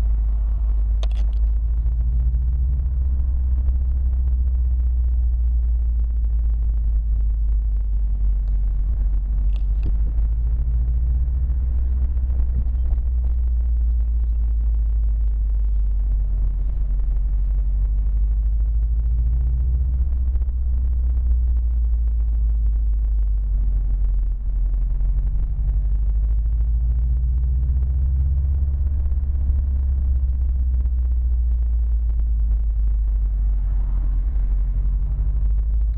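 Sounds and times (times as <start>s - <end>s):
car engine low rumble: 0.0s - 35.9s.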